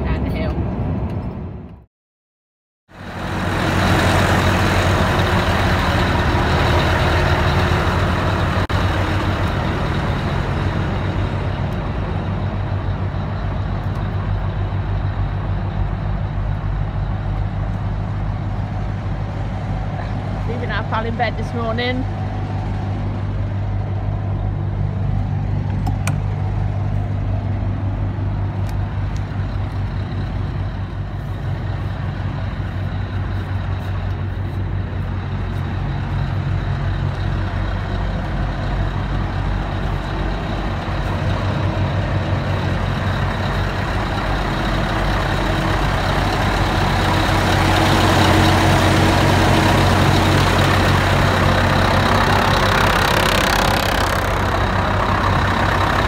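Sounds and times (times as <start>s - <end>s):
lorry diesel engine idling: 2.9s - 56.0s.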